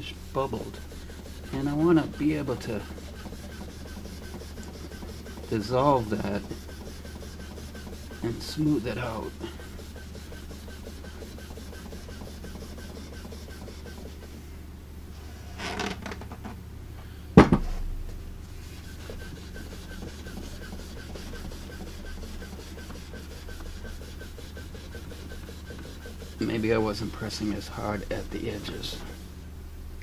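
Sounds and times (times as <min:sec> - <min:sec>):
hand rubbing wooden panel: 0:00.0 - 0:14.4, 0:18.6 - 0:29.3.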